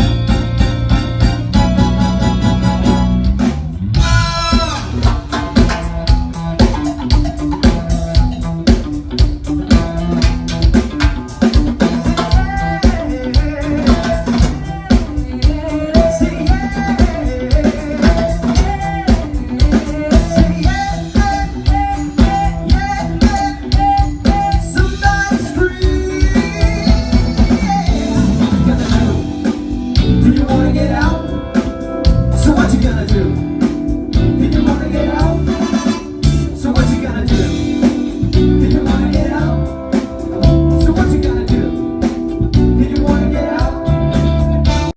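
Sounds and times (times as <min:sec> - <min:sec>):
band playing a song: 0:00.0 - 0:44.9
wavering lead melody: 0:00.0 - 0:44.9.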